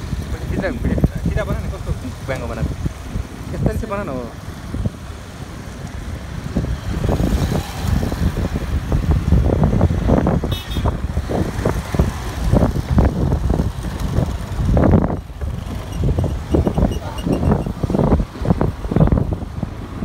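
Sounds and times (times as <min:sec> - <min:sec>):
other vehicles: 0:00.0 - 0:20.0
wind on microphone: 0:00.0 - 0:20.0.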